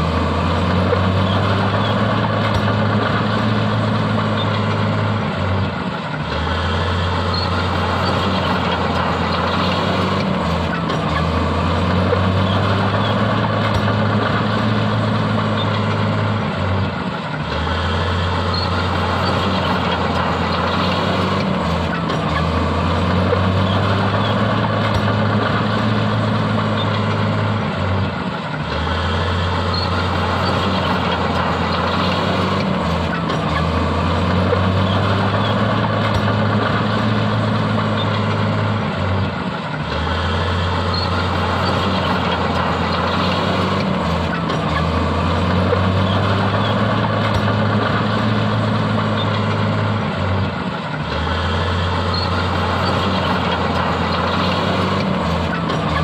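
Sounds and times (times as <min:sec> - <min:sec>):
heavy diesel machinery drone: 0:00.0 - 0:56.0.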